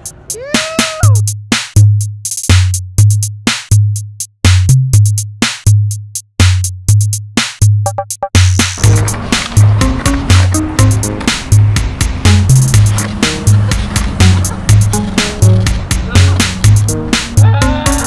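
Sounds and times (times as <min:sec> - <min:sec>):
drum machine beat: 0:00.0 - 0:18.0.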